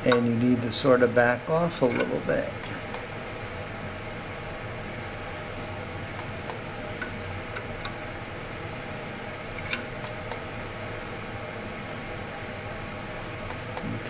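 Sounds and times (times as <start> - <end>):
machine humming with high whine: 0.0 - 14.0.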